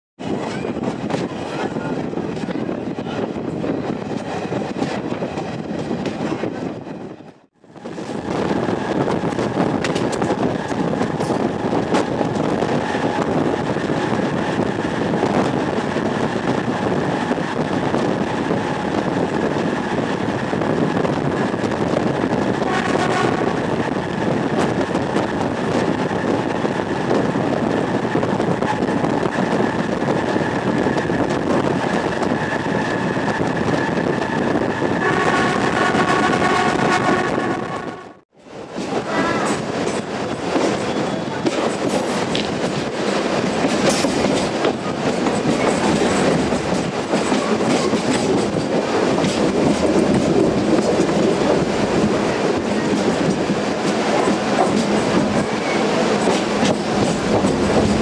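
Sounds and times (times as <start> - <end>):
train wheels rumbling on rails: 0.2 - 58.0.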